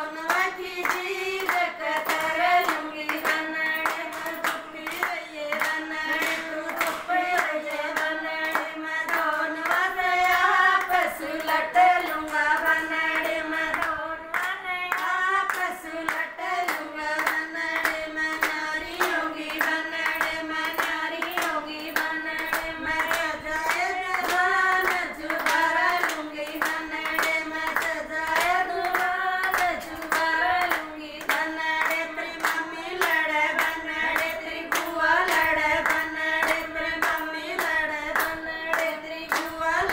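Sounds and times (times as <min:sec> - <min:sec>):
rhythmic hand-clapping: 0:00.0 - 0:39.9
women singing together: 0:00.0 - 0:39.9.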